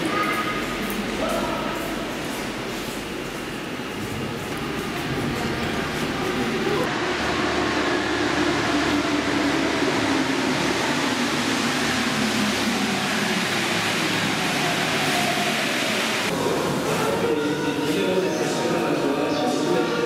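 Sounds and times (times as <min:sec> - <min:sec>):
metro train rumbling past: 0:00.0 - 0:20.0.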